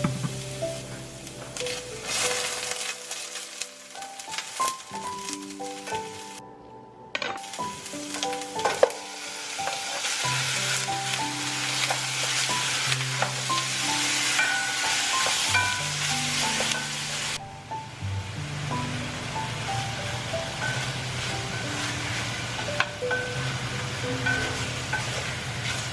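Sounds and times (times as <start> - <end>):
food sizzling in a pan: 0.0 - 6.4, 7.4 - 25.9.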